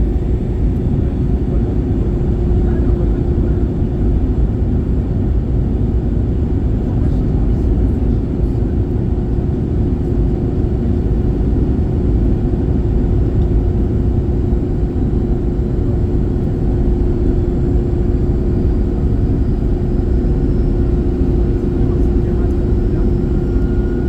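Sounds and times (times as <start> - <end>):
jet engines rumbling: 0.0 - 24.0
steady low hum: 0.0 - 24.0.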